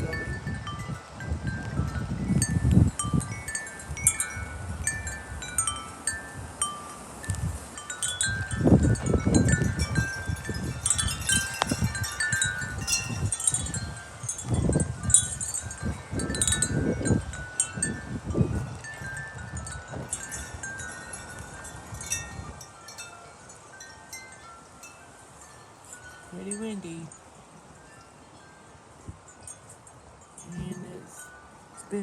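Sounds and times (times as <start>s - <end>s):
metal wind chimes ringing: 0.0s - 32.0s
wind buffeting microphone: 0.0s - 32.0s.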